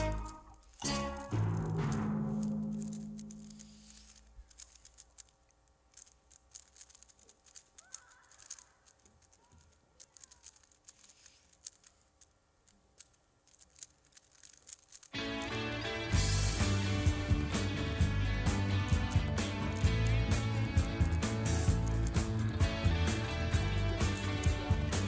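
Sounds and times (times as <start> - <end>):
puzzle cube layers clicking: 0.0 - 15.9, 16.6 - 25.0.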